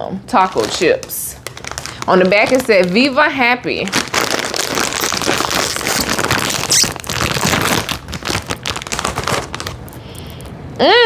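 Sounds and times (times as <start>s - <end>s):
chip bag crinkling: 0.3s - 10.6s.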